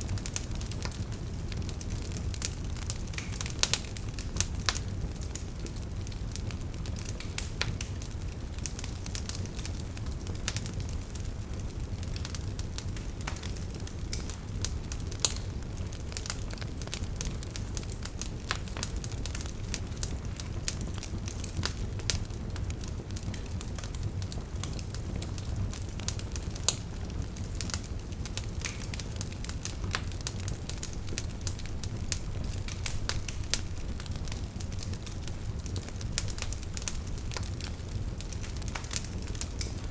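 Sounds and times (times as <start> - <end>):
campfire burning: 0.0 - 39.9
fire crackles and pops: 0.0 - 39.9.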